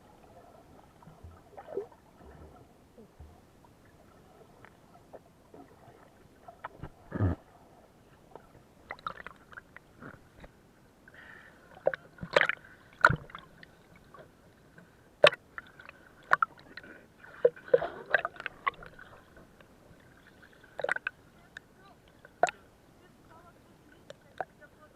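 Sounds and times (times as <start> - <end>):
sea water sloshing: 0.0 - 24.8.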